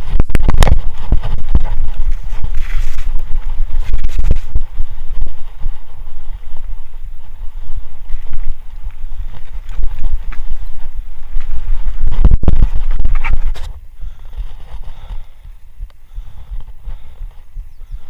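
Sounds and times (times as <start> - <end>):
mountain bike rattling over trail: 0.0 - 18.0
wind buffeting microphone: 0.0 - 18.0.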